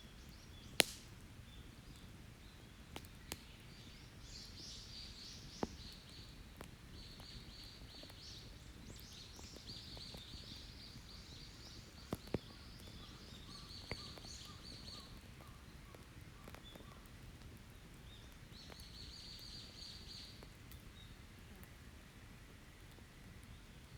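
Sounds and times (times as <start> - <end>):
birdsong: 0.0 - 21.2
campfire crackling and popping: 0.1 - 23.9.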